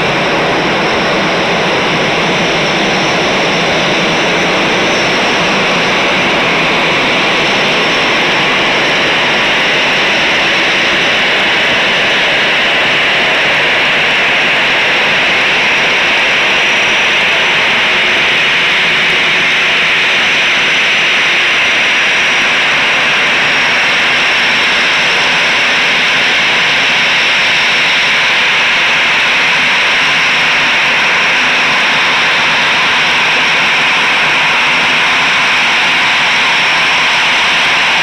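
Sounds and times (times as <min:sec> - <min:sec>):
high engine whine: 0:00.0 - 0:38.0
jet engines taxiing: 0:00.0 - 0:38.0.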